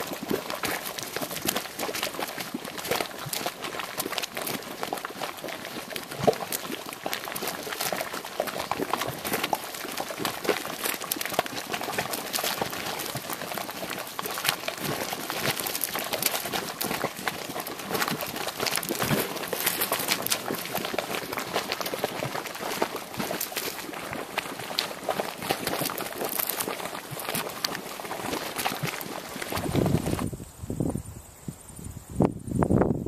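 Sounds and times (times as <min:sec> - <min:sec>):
mud splashing: 0:00.0 - 0:30.3
mud bubbling and plopping: 0:00.0 - 0:30.4.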